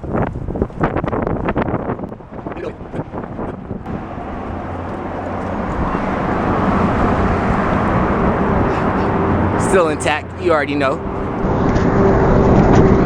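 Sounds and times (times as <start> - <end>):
road traffic rushing: 0.0 - 13.0
vehicle engine hum: 0.0 - 13.0.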